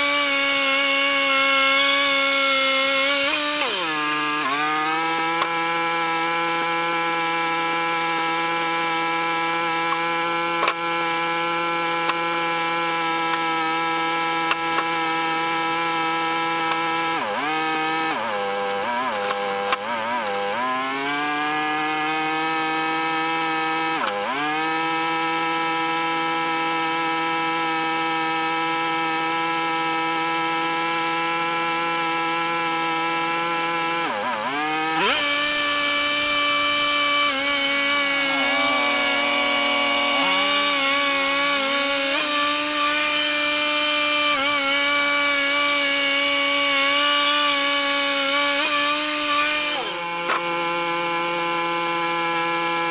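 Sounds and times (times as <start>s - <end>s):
chainsaw sawing wood: 0.0s - 52.9s.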